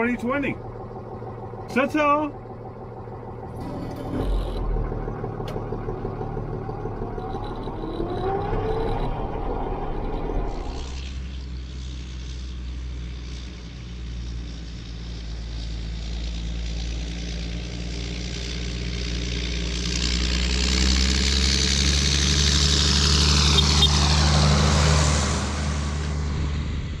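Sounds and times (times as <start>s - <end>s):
tractor diesel engine passing: 0.0s - 27.0s.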